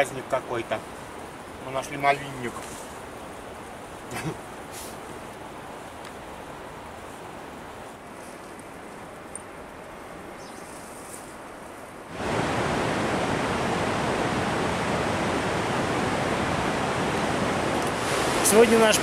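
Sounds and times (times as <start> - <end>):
faint outdoor ambience: 0.0 - 19.0
rushing river and waterfall: 0.0 - 19.0.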